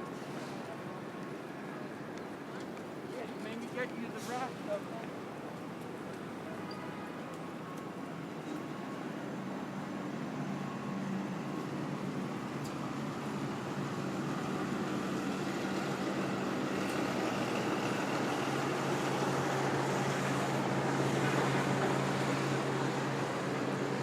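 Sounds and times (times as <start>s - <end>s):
street traffic: 0.0s - 24.0s.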